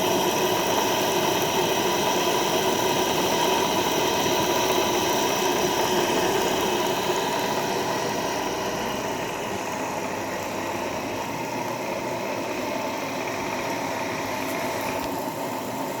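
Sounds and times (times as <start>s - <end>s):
model steam engine running: 0.0s - 16.0s.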